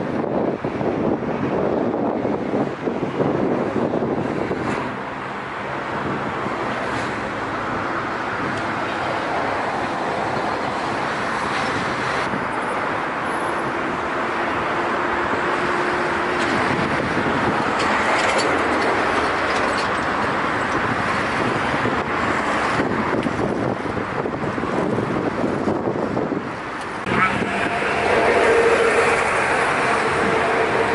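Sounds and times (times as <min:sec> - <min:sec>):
ship engine and water rush: 0:00.0 - 0:30.9.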